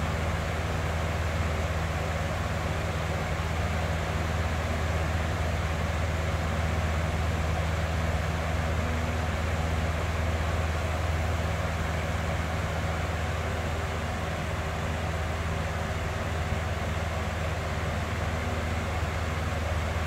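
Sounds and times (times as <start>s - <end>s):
box fan running: 0.0s - 20.0s.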